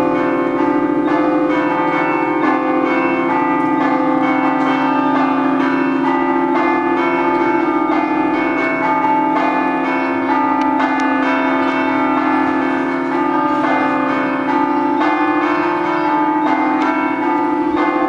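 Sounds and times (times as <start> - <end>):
church bells ringing rhythmically: 0.0 - 18.0.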